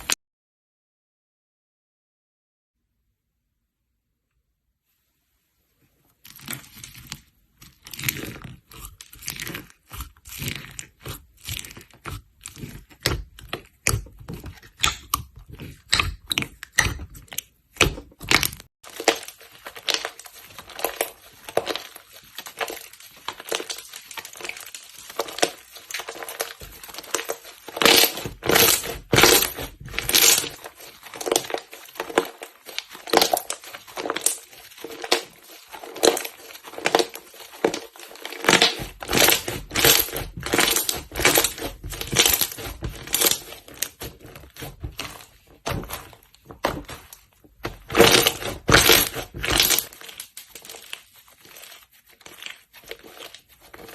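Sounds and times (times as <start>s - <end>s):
slime popping and squelching: 6.3s - 53.9s.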